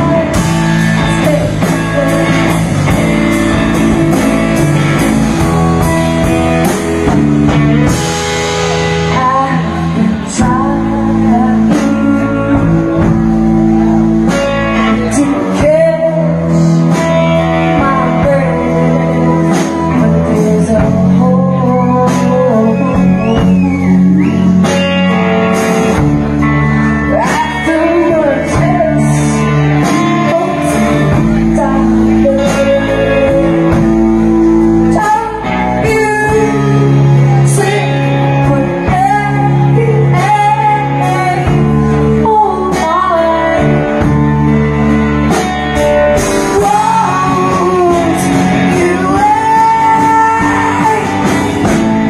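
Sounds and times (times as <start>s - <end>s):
drum kit: 0.0s - 52.0s
electric guitar: 0.0s - 52.0s
woman singing lead: 0.0s - 52.0s.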